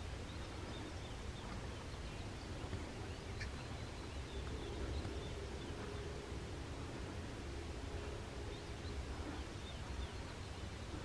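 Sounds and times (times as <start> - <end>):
faint low hum: 0.0 - 11.0
low outdoor rumble: 0.0 - 11.0.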